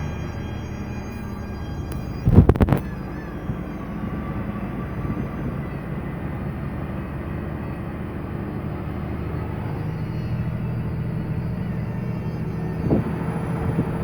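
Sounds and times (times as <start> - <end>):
truck engine and road drone: 0.0 - 14.0.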